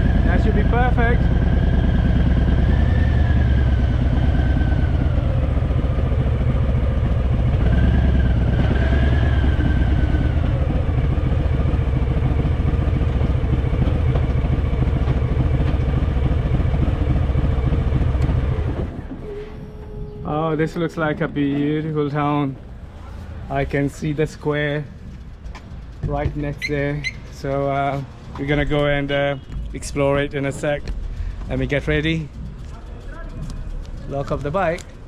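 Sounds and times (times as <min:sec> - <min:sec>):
motorcycle engine running: 0:00.0 - 0:21.5, 0:23.6 - 0:35.0.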